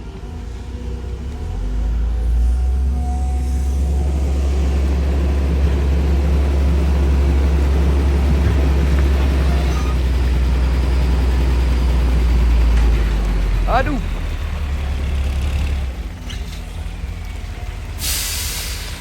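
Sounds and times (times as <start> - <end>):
heavy vehicle engine rumbling: 0.0 - 19.0.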